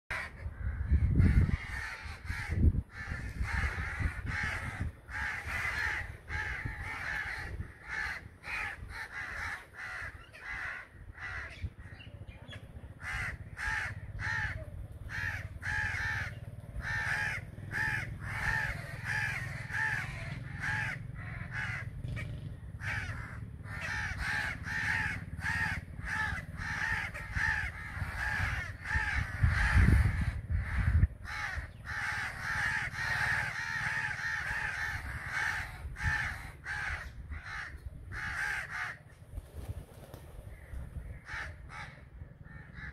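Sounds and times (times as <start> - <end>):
crows cawing: 0.1 - 12.1, 12.9 - 39.2, 40.5 - 42.9.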